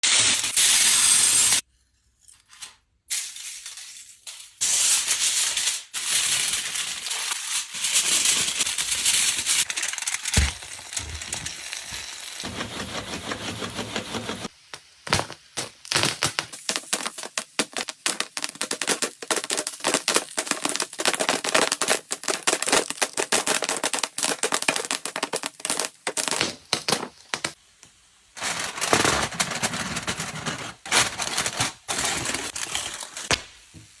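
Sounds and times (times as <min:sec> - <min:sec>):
crackling rustling noise: 0:05.5 - 0:27.6, 0:28.3 - 0:34.0.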